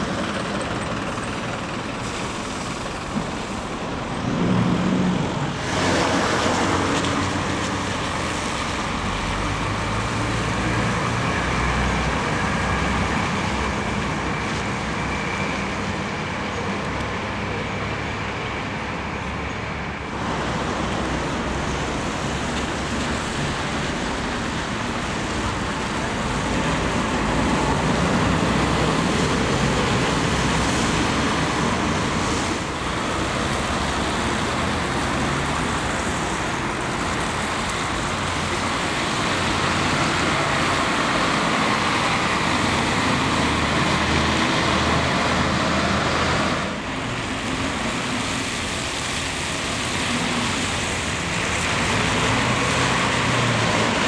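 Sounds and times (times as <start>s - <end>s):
tyres hissing on wet road: 0.0s - 54.0s
vehicles passing: 0.0s - 54.0s.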